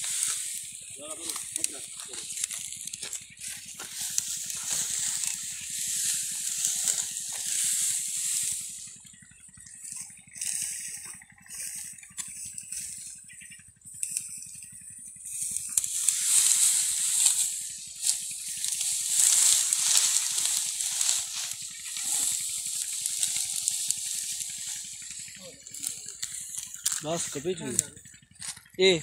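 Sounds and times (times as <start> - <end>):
dry wheat stalks rustling: 0.0 - 29.0.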